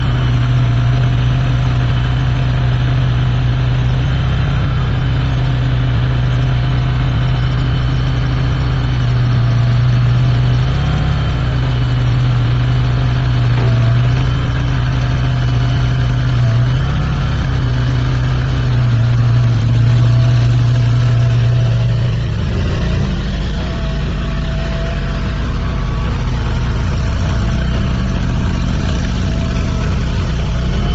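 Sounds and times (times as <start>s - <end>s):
skid-steer loader engine running: 0.0s - 30.9s.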